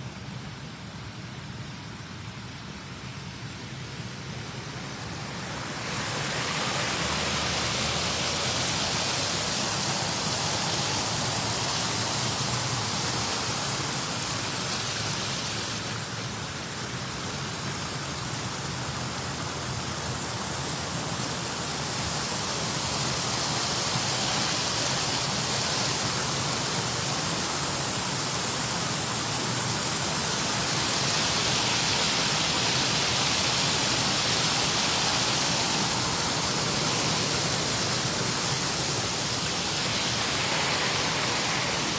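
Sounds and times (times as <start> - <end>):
small waterfall rushing: 0.0 - 41.9.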